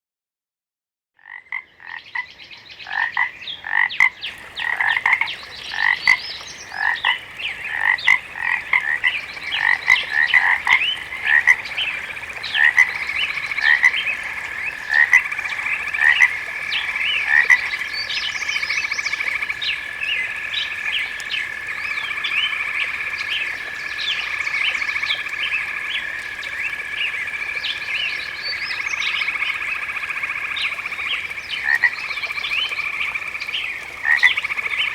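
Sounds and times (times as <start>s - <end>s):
frogs calling: 1.2s - 34.9s.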